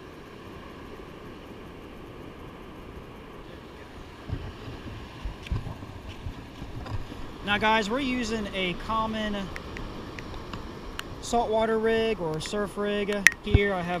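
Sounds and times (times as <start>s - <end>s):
muffled wind and surf: 0.0s - 14.0s.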